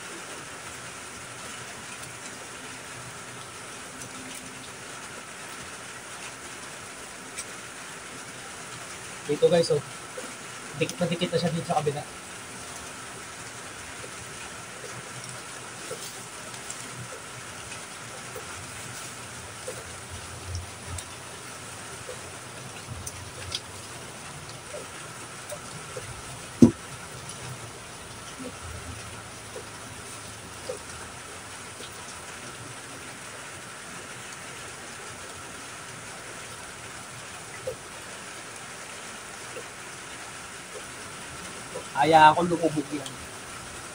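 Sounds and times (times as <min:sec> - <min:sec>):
steady rain hissing: 0:00.0 - 0:43.9
light drip ticks: 0:00.6 - 0:33.4, 0:35.1 - 0:43.3.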